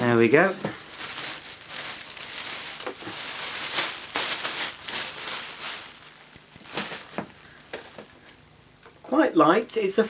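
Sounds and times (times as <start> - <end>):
plastic bag rustling and crinkling: 0.0 - 9.0.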